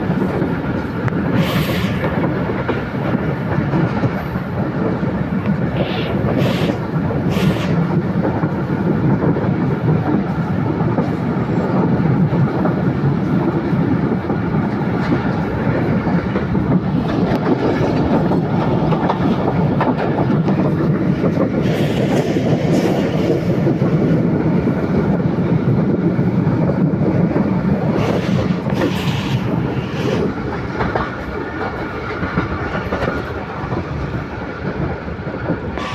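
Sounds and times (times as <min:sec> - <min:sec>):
train wagons rumbling: 0:00.0 - 0:35.9
wheels clacking over rail joints: 0:00.0 - 0:35.9.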